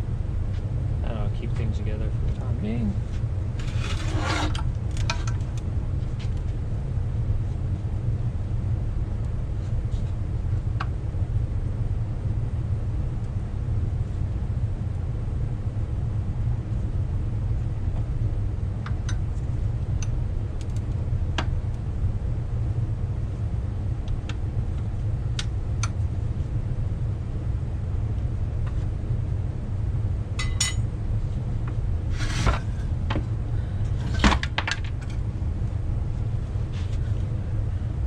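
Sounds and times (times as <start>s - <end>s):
low background rumble: 0.0s - 38.0s.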